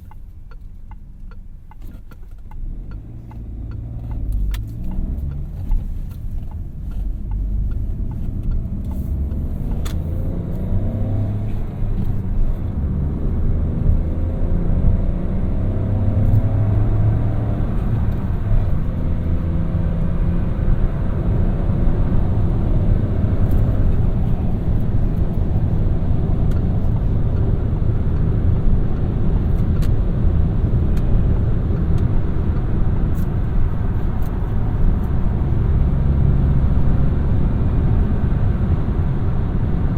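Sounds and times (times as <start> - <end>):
road and tyre rumble: 0.0 - 39.9
car engine accelerating: 0.8 - 39.9.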